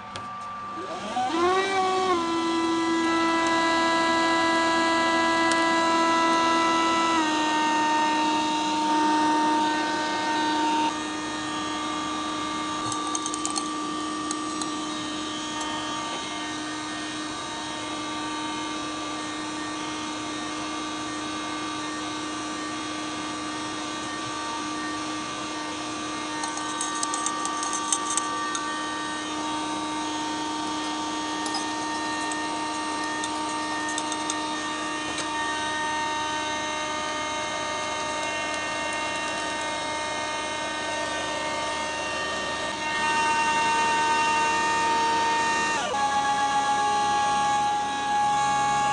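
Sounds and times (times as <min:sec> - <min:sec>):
electric mixer motor whine: 0:00.0 - 0:48.9.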